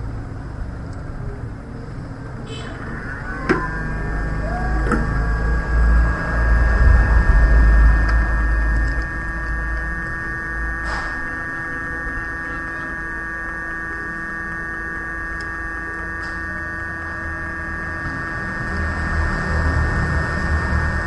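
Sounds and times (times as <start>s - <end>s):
electrical hum with whine: 0.0s - 21.0s.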